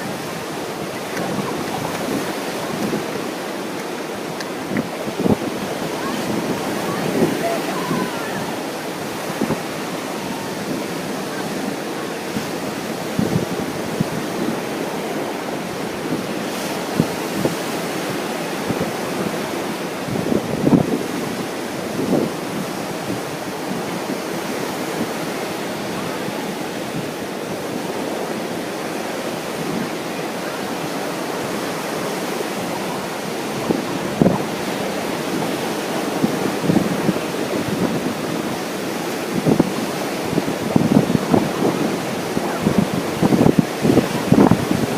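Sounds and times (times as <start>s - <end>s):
ocean surf washing in: 0.0s - 44.9s
wind buffeting microphone: 0.0s - 44.9s.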